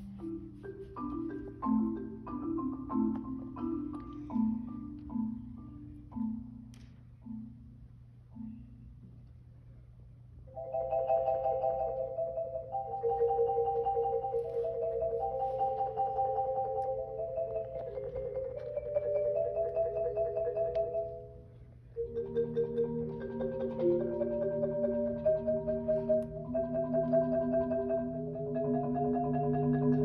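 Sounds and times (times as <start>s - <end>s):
marimba played with mallets: 0.0s - 9.7s, 10.4s - 30.0s.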